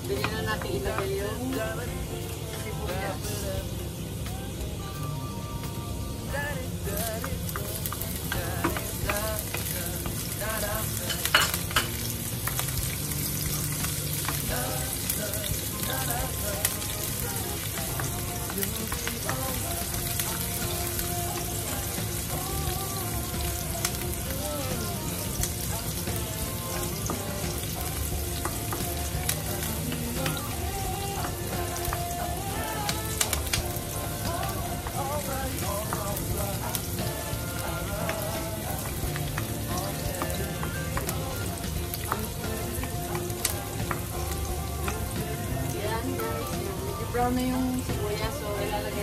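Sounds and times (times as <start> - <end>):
onion sizzling in hot oil: 0.0 - 49.0.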